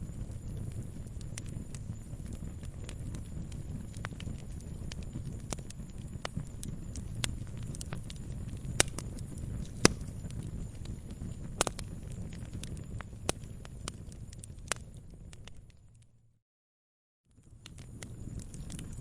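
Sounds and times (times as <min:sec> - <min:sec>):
wood fire crackling and popping: 0:00.0 - 0:16.2, 0:17.3 - 0:19.0.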